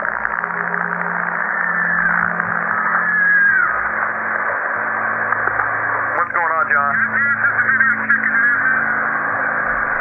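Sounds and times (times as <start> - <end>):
low hum: 0.0 - 10.0
radio static hiss: 0.0 - 10.0.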